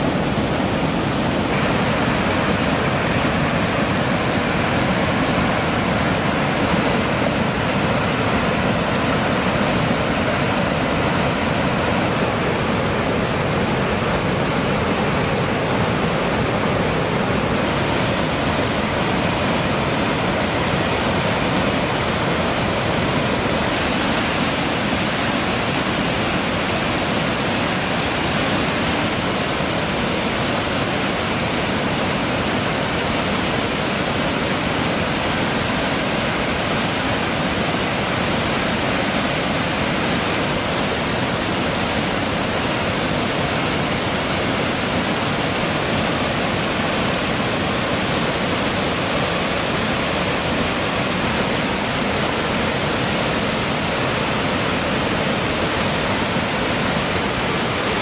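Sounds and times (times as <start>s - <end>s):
waterfall torrent rushing over rocks: 0.0s - 58.0s.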